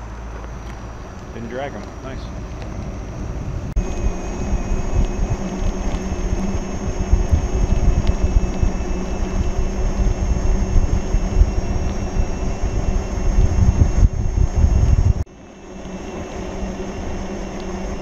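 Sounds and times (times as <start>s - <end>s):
road noise: 0.0s - 18.0s
wind buffeting microphone: 0.6s - 18.0s.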